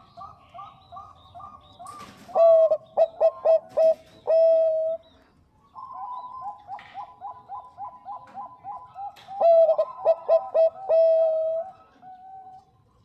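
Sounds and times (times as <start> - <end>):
doves cooing: 0.0 - 12.8.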